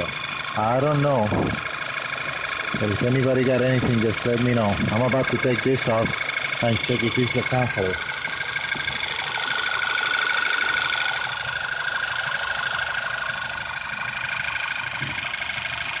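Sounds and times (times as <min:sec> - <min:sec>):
car engine idling: 0:00.0 - 0:16.0
fast light engine ticking: 0:00.0 - 0:16.0.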